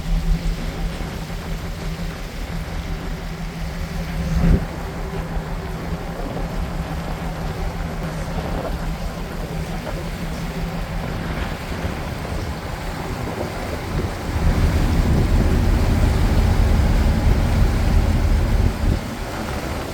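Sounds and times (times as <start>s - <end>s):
boat engine droning: 0.0s - 19.9s
water noise: 0.0s - 19.9s
wind: 0.0s - 19.9s.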